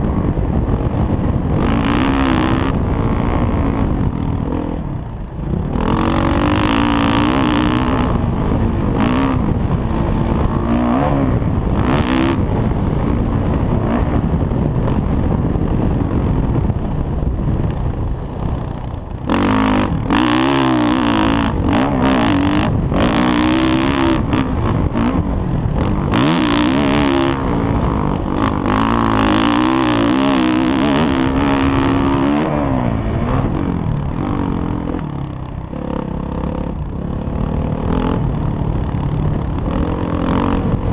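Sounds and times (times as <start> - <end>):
dirt bike engine revving: 0.0 - 40.9
wind buffeting microphone: 0.0 - 40.9.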